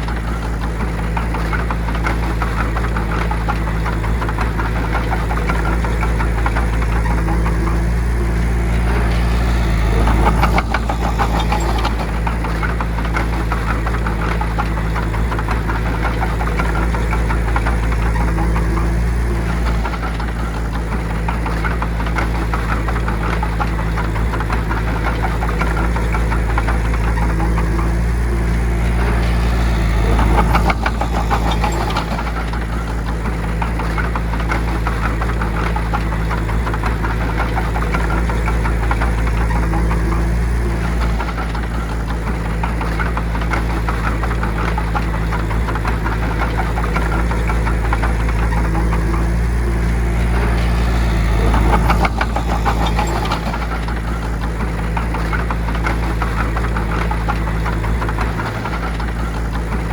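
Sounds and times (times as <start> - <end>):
bulldozer engine rattling: 0.0 - 59.9.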